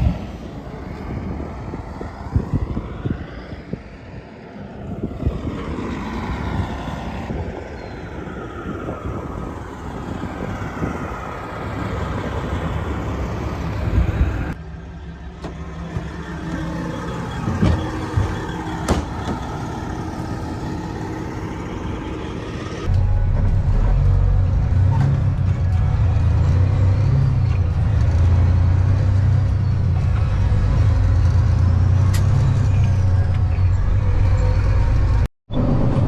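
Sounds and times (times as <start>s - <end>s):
truck road and engine rumble: 0.0s - 36.0s.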